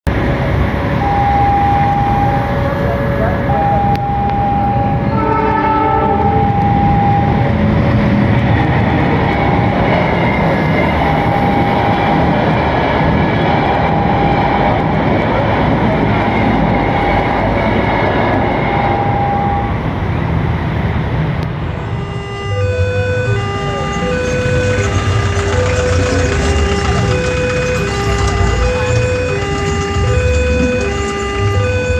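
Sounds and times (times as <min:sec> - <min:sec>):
train rumbling past: 0:00.1 - 0:31.9.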